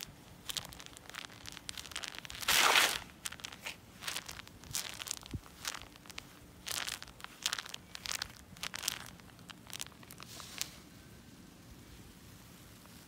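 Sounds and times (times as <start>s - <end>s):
dead insects crunching underfoot: 0.0s - 10.7s.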